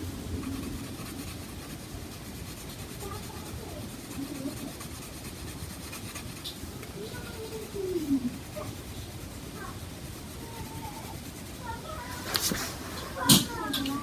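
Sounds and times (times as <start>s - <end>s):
pencil shading on paper: 0.0s - 14.0s.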